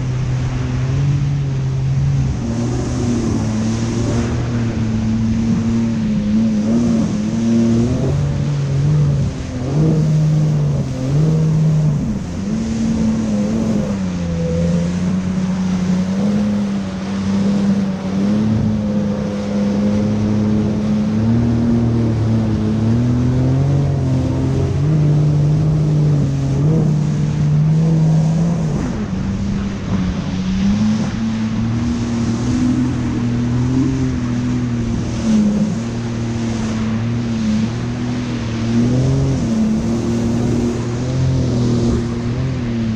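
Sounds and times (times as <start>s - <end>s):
water rushing past hull: 0.0s - 42.9s
watercraft engine running: 0.0s - 42.9s.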